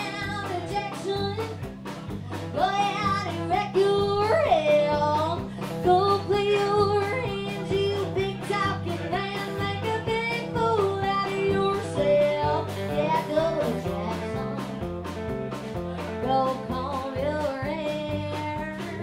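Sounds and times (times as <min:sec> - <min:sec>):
woman singing into microphone: 0:00.0 - 0:01.6, 0:02.3 - 0:15.0, 0:16.0 - 0:19.0
country band playing: 0:00.0 - 0:19.0.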